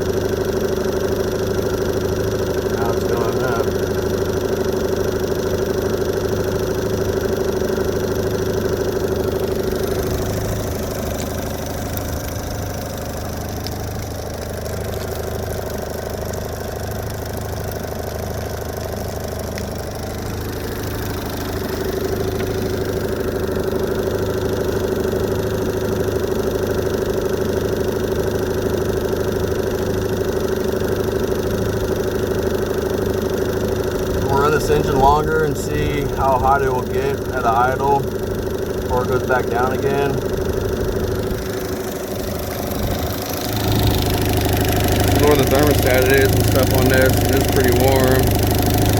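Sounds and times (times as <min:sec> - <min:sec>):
outboard engine idling: 0:00.0 - 0:48.9.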